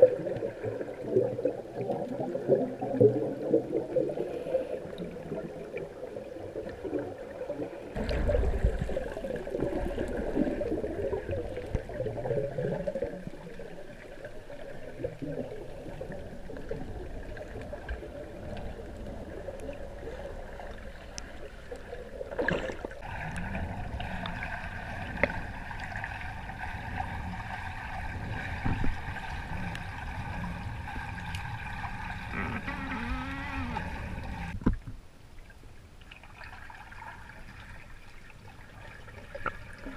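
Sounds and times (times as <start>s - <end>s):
muffled underwater water sloshing: 0.0s - 39.9s.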